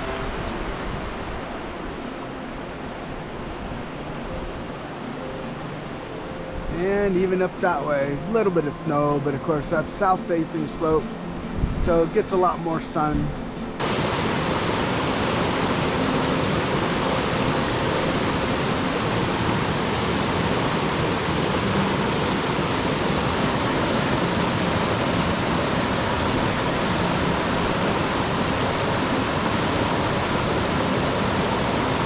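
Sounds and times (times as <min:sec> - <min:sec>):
rushing river water: 0:00.0 - 0:32.0.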